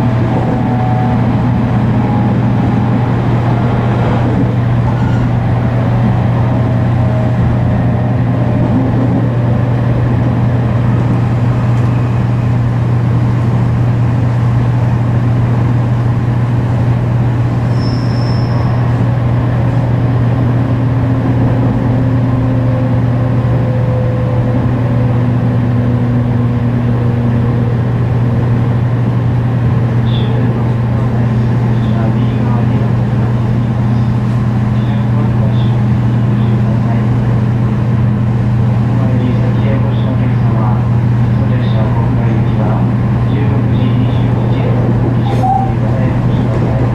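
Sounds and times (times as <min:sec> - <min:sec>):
electric train deep low hum: 0:00.0 - 0:46.9.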